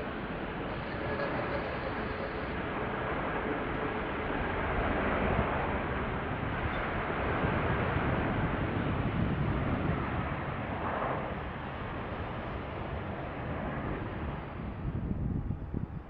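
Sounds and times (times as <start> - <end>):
jet airliner engines roaring: 0.0 - 16.0.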